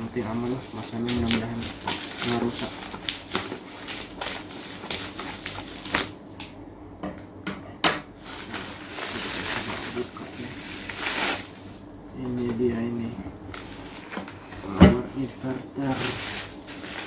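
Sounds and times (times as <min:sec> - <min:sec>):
bubble wrap crinkling: 0:00.0 - 0:06.2, 0:08.2 - 0:17.0.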